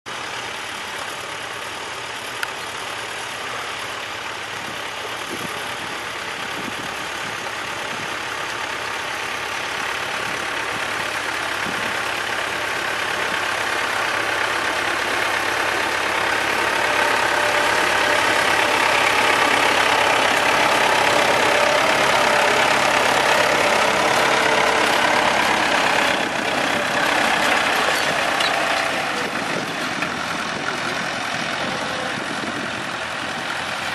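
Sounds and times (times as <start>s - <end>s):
tractor engine under load: 0.1s - 33.9s.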